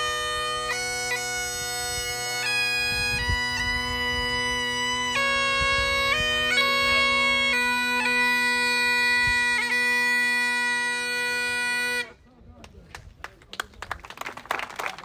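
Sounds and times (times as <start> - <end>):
bagpipes playing slow tune: 0.0 - 12.2.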